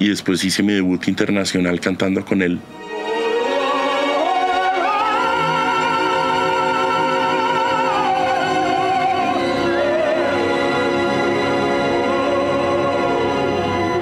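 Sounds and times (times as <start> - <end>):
orchestral chords: 2.6 - 14.0
opera singing with vibrato: 2.7 - 14.0.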